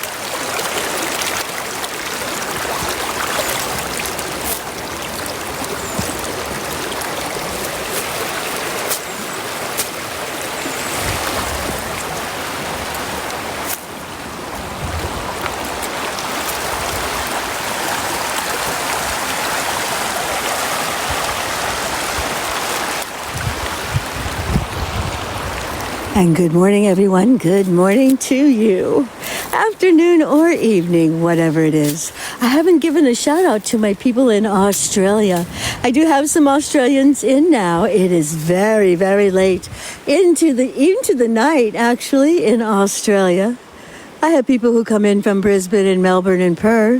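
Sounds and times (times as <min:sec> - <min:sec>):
river water flowing: 0:00.0 - 0:46.9.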